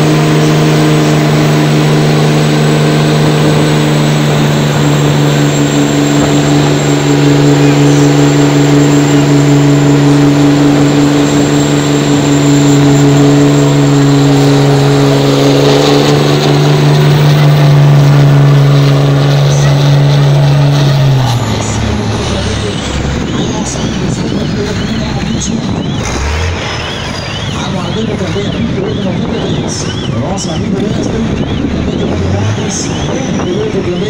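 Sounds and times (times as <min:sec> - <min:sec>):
diesel engine at high revs: 0:00.0 - 0:34.0.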